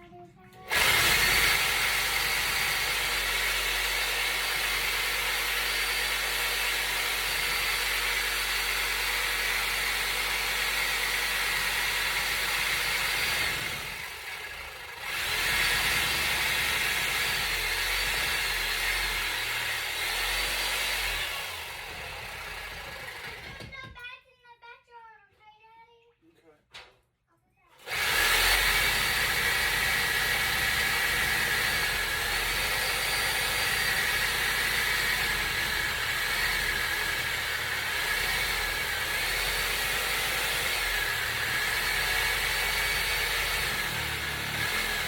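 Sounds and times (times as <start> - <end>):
power tool cutting iron pipe: 0.7 - 23.7, 27.8 - 45.0.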